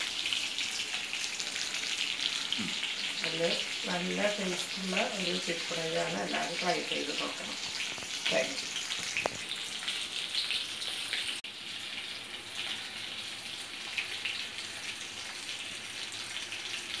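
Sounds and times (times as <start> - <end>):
oil sizzling in a frying pan: 0.0 - 17.0.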